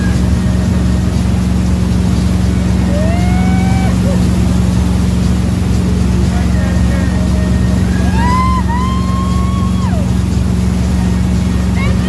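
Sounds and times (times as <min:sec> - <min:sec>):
motorboat engine drone: 0:00.0 - 0:12.0
water rushing: 0:00.0 - 0:12.0.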